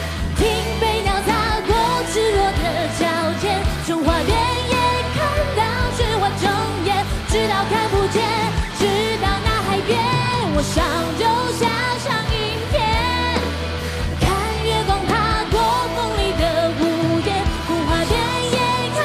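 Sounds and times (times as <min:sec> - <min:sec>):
rock band playing: 0:00.0 - 0:19.0
woman singing: 0:00.0 - 0:19.0.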